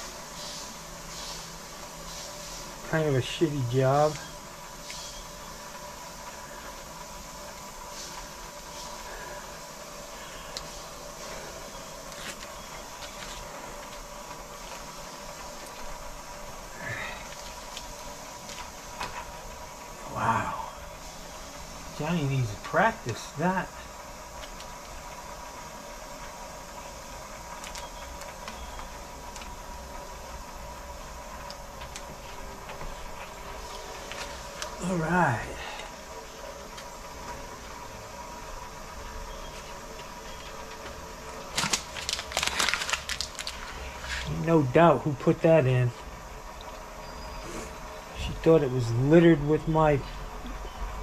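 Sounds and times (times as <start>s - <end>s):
water running hiss: 0.0s - 42.3s.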